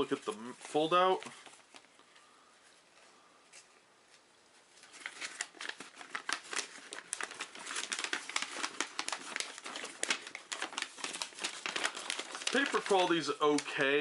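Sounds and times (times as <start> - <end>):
paper crinkling and rustling: 0.0 - 14.0.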